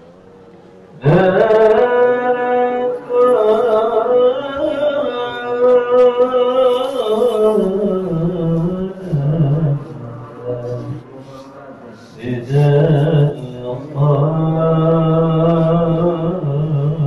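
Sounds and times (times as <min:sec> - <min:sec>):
person chanting: 0:00.9 - 0:17.0.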